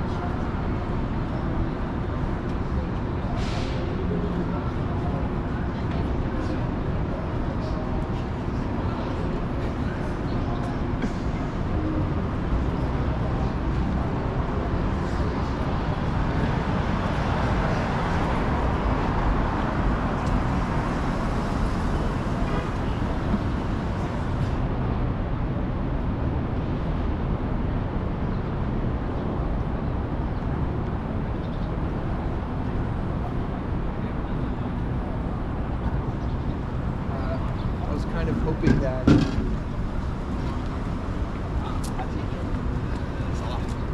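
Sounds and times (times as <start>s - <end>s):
city street traffic: 0.0s - 43.9s.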